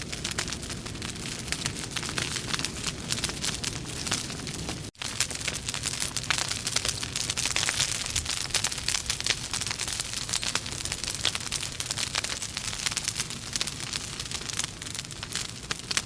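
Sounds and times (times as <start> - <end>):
fireplace logs crackling: 0.0 - 16.0.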